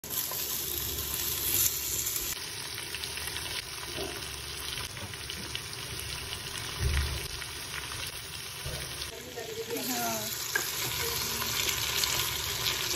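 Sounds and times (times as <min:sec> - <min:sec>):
potatoes sizzling in hot oil: 0:00.0 - 0:12.9.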